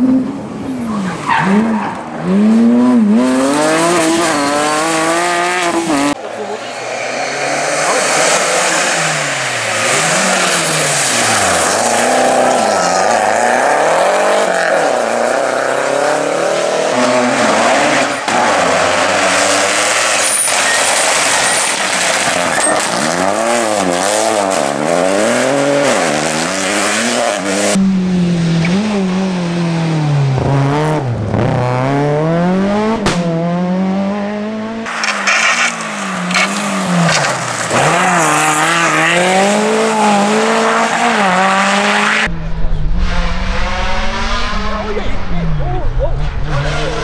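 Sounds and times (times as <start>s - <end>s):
rally car engines at full throttle: 0.0s - 47.0s.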